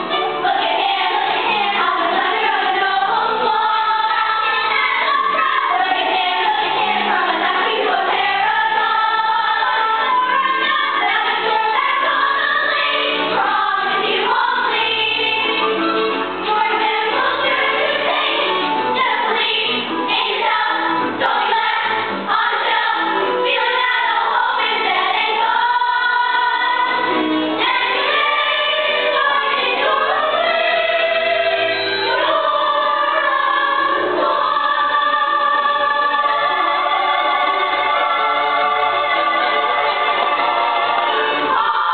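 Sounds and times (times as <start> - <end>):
group singing: 0.0 - 41.9
instrumental accompaniment: 0.0 - 41.9.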